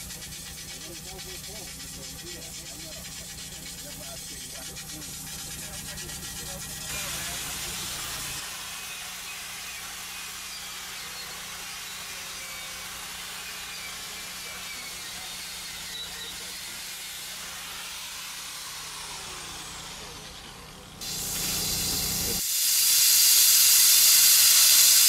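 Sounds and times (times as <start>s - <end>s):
steam hissing: 0.0s - 25.0s.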